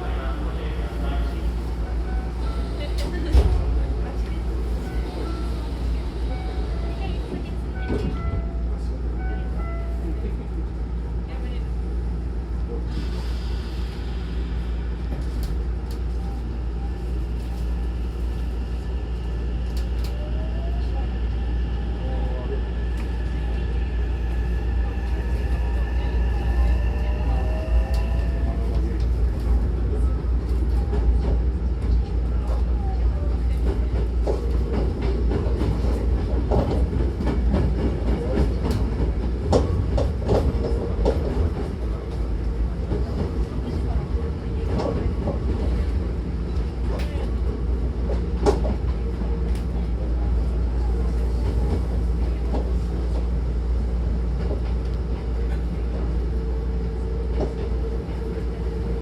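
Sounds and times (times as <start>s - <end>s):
train car rumble: 0.0s - 59.0s.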